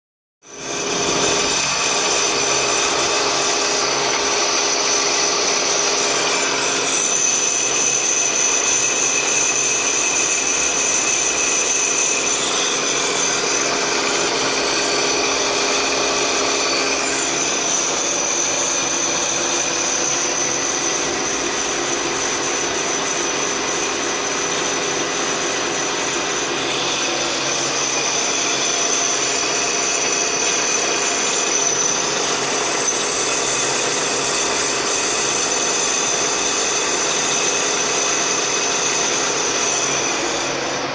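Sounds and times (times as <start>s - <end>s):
brake lathe cutting with whine: 0.4s - 40.9s.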